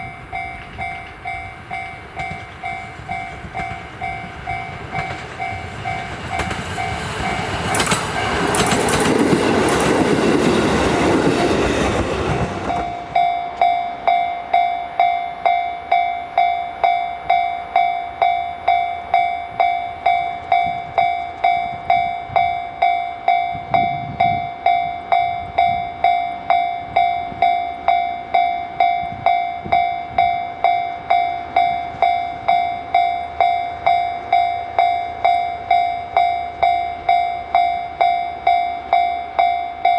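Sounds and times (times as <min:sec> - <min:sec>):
level crossing alarm bell: 0:00.0 - 0:07.9, 0:12.7 - 0:39.9
diesel railcar passing: 0:00.0 - 0:39.9.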